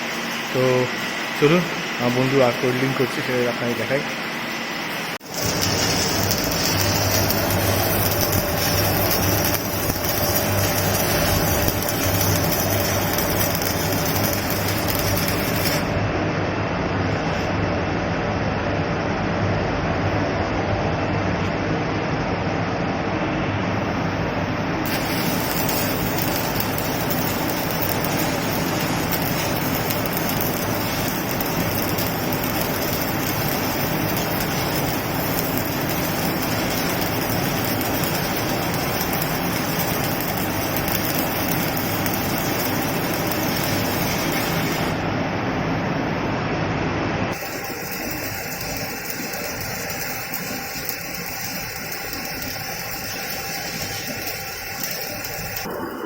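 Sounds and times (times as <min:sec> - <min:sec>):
welding arc crackling: 0:00.0 - 0:16.0, 0:24.8 - 0:45.2, 0:47.3 - 0:56.0.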